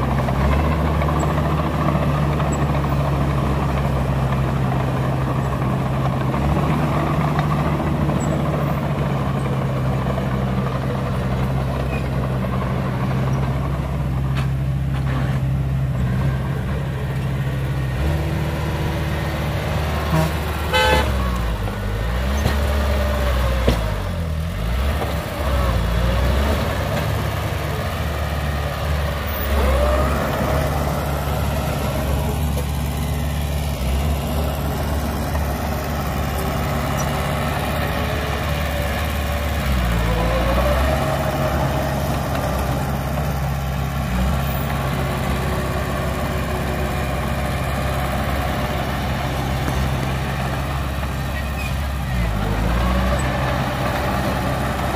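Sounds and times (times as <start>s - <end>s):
heavy diesel engines working: 0.0s - 54.9s.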